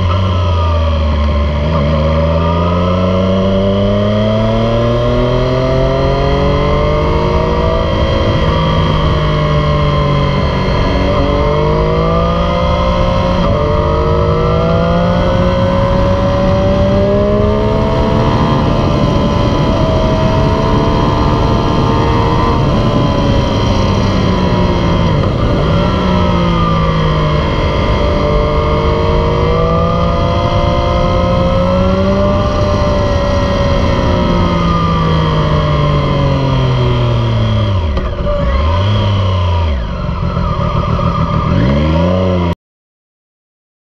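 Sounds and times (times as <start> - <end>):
motorcycle engine accelerating: 0.0 - 42.6.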